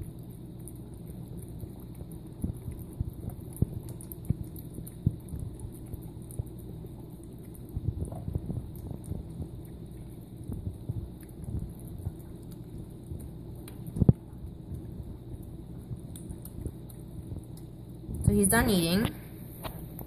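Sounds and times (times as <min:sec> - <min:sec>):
kitten chewing and smacking: 0:00.0 - 0:20.0
steady low hum: 0:00.0 - 0:20.0.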